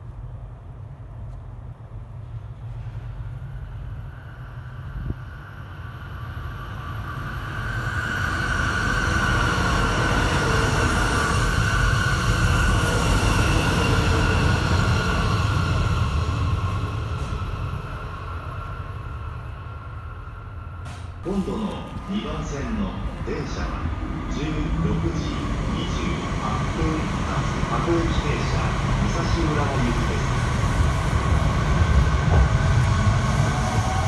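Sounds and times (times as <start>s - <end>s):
high-speed train passing: 0.0s - 34.0s.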